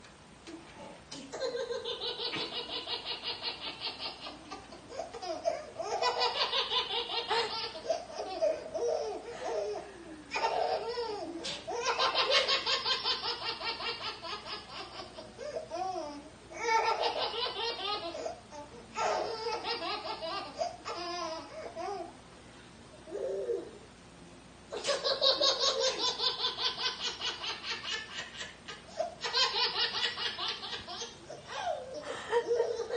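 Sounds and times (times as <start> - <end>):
baby laughing: 1.3 - 22.0, 24.7 - 32.9.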